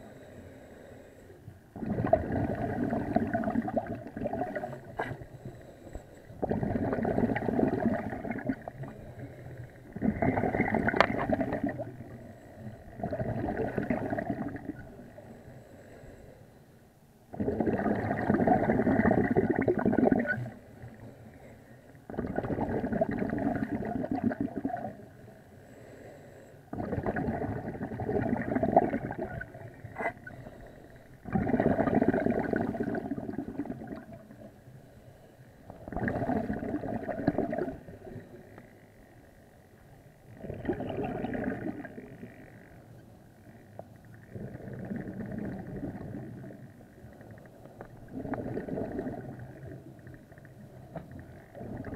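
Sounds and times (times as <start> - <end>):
underwater exhaled air bubbling: 1.7 - 15.4, 17.3 - 21.2, 22.0 - 25.2, 26.7 - 34.6, 35.6 - 38.8, 40.2 - 51.9.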